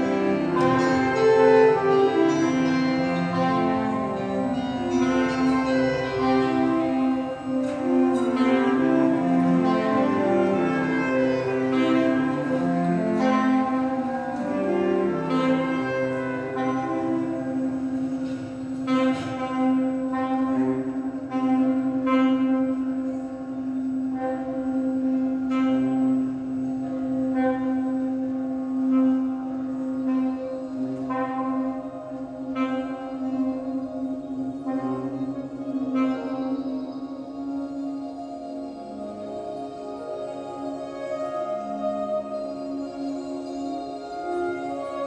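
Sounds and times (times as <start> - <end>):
saxophone quartet playing slowly: 0.0 - 45.0.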